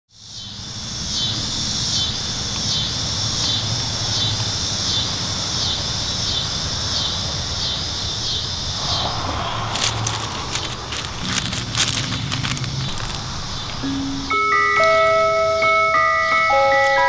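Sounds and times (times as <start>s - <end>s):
insects chirping: 0.1s - 17.0s
low outdoor rumble: 0.6s - 14.3s.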